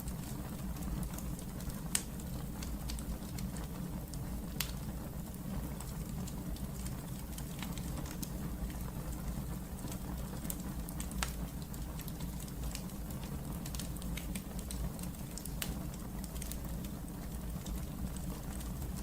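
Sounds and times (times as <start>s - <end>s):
fire flames rumbling: 0.0s - 19.0s
wood fire crackling and popping: 0.0s - 19.0s.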